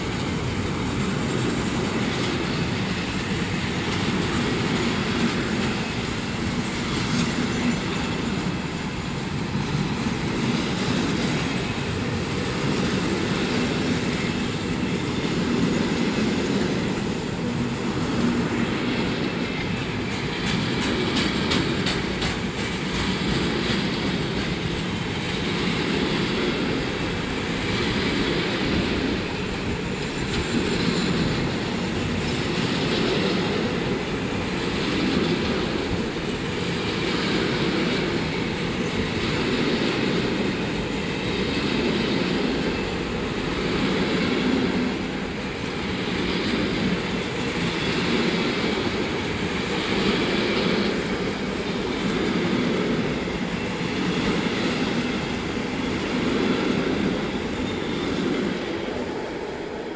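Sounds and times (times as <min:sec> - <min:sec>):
train wheels clattering over rail joints: 0:00.0 - 0:59.0.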